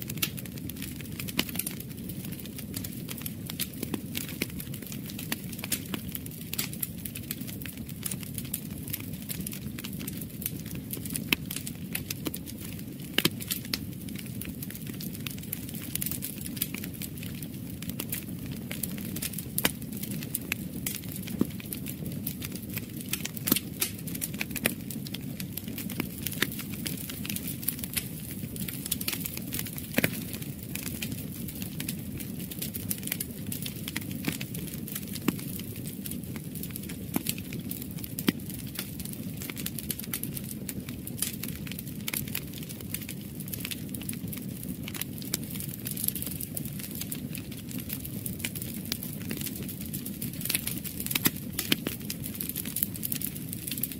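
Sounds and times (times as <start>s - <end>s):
low flame noise: 0.0s - 53.9s
wood fire crackling and popping: 0.0s - 53.9s.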